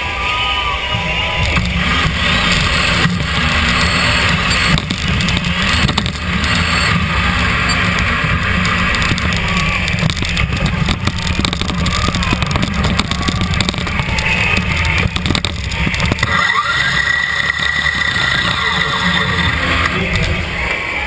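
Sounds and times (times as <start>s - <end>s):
steady high whine: 0.0s - 21.0s
robot motors and gearboxes whining: 1.0s - 21.0s.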